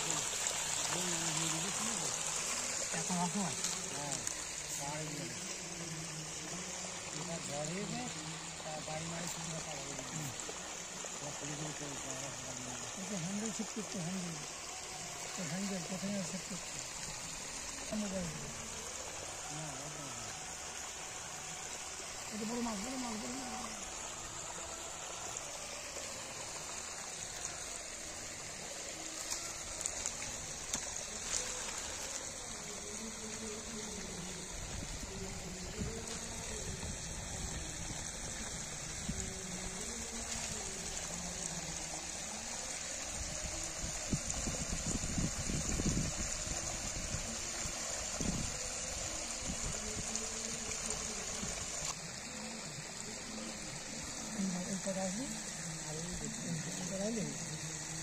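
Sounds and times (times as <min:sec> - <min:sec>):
shallow water flowing over pebbles: 0:00.0 - 0:58.0.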